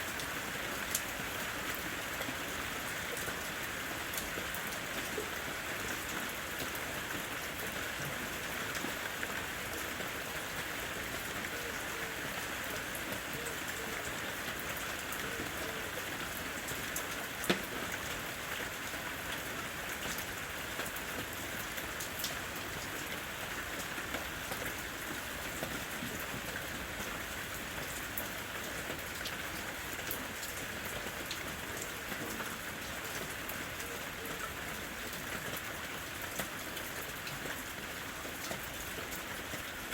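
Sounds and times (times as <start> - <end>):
rain hissing in forest: 0.0 - 39.9.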